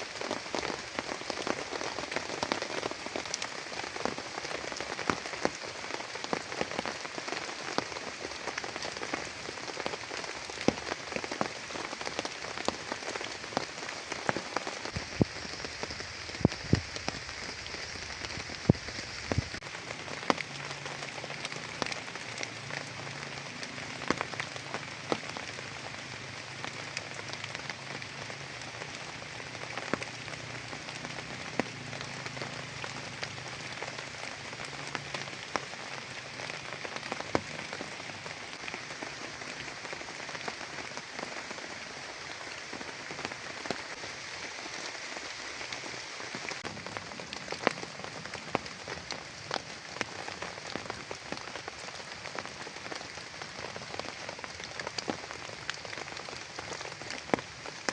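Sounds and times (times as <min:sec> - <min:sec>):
heavy rain falling: 0:00.0 - 0:57.9
raindrops tapping nearby: 0:00.0 - 0:57.9.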